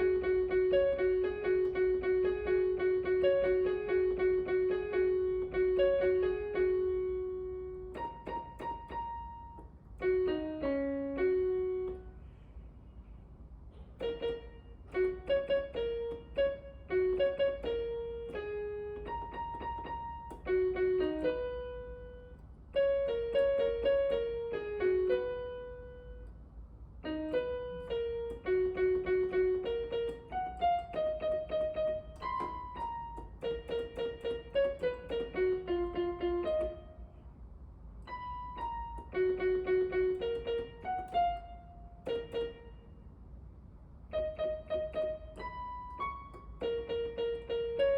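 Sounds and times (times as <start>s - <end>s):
piano melody: 0.0s - 12.6s, 13.7s - 47.9s.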